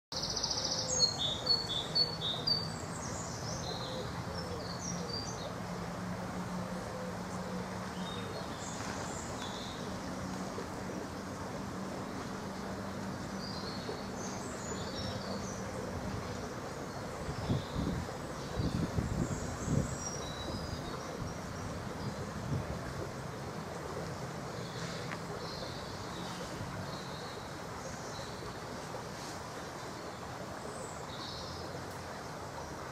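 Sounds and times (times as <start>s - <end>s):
songbirds chirping and trilling: 0.1s - 32.9s.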